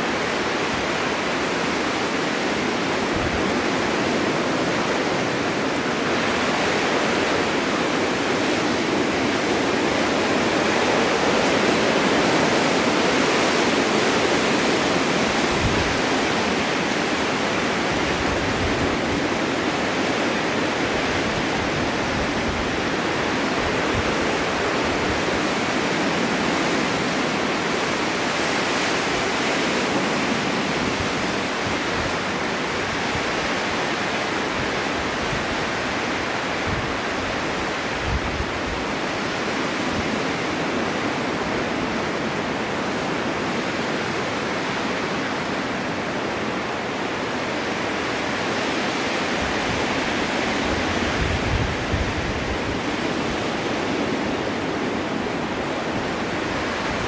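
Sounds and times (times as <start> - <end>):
low wind buffets: 0.0 - 57.0
wind blowing: 0.0 - 57.0.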